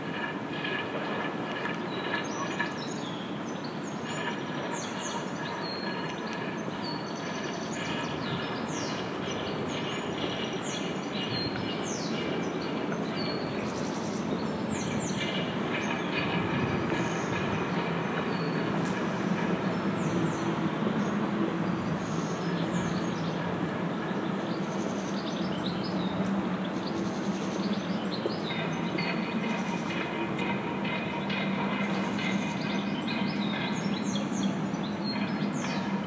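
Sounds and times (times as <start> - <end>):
birds chirping: 1.9 - 36.0.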